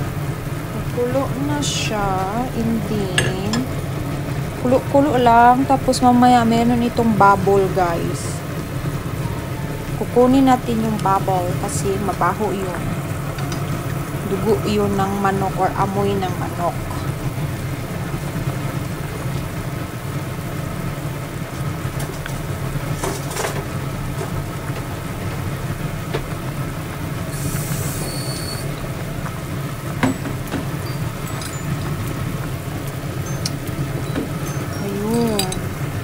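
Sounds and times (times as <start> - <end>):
exhaust fan humming: 0.0 - 36.0
pot boiling: 0.0 - 36.0.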